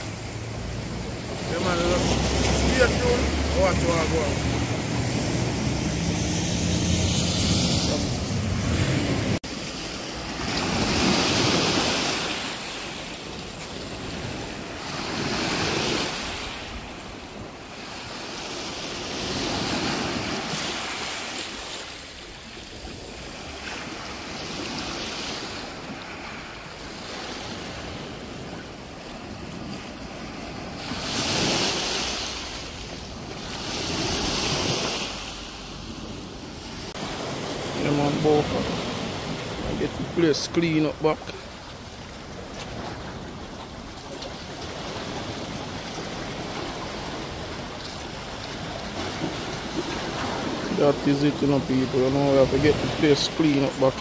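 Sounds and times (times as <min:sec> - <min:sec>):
waves breaking on pebble shore: 0:00.0 - 0:54.0.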